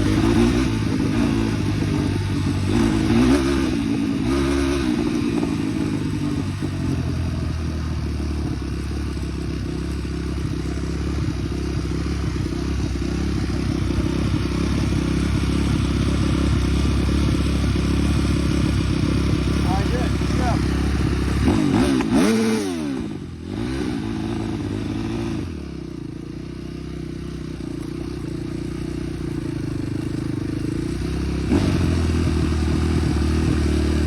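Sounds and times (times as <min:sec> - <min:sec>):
small off-road engine running: 0:00.0 - 0:34.0.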